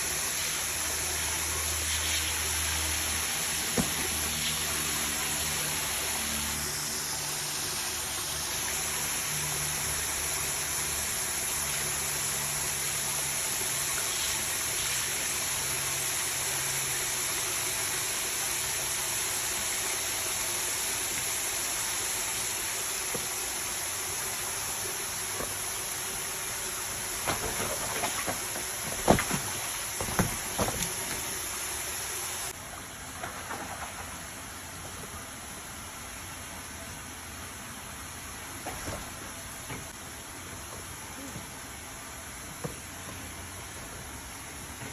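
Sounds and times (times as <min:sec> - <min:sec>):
water running: 0:00.0 - 0:44.9.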